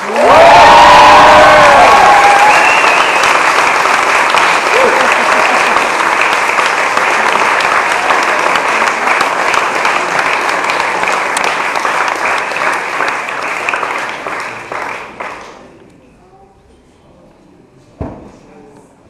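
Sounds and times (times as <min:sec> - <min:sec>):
crowd clapping: 0:00.0 - 0:15.8.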